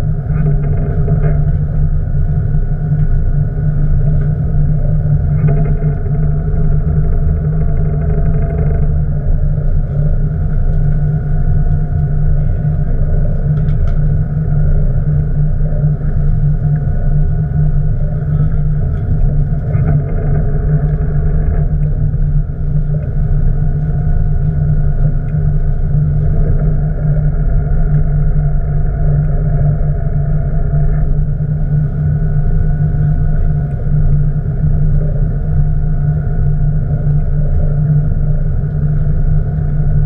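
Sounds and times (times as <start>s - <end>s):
boat engine running: 0.0s - 40.0s.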